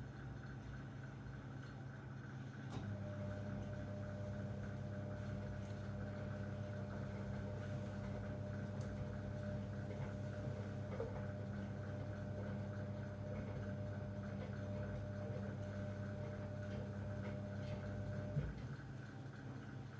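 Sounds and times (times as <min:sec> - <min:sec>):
washing machine humming: 0:00.0 - 0:19.9.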